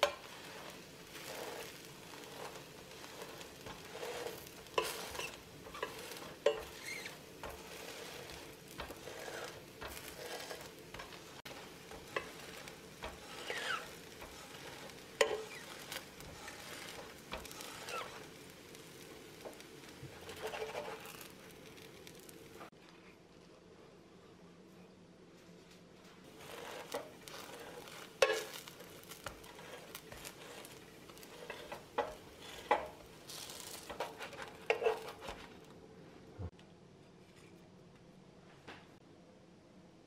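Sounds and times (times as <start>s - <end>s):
metal spatula scraping a pan: 0.0s - 22.7s, 26.3s - 35.7s
pancake sizzling in a pan: 0.0s - 22.8s, 26.2s - 35.7s.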